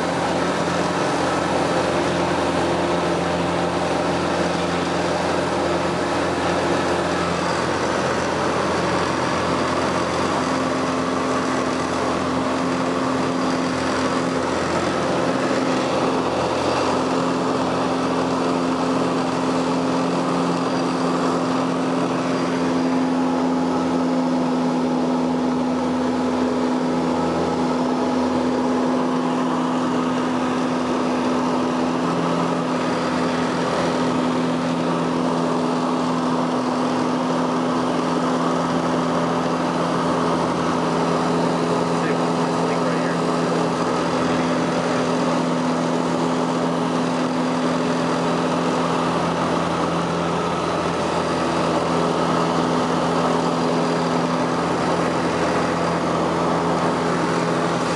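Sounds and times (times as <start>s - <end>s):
propeller aircraft engine droning: 0.0s - 57.9s.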